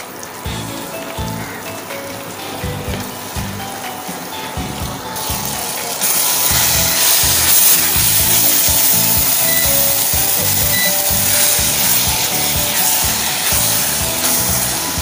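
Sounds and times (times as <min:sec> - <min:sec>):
food sizzling in pan: 0:00.0 - 0:15.0
background music with beat: 0:00.5 - 0:15.0.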